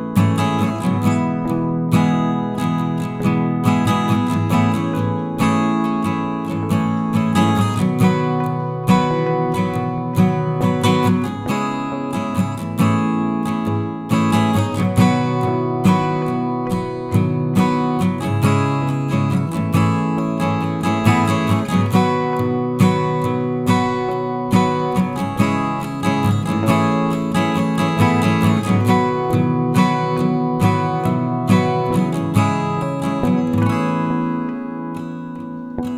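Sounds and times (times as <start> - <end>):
acoustic guitar strumming: 0.0 - 35.9.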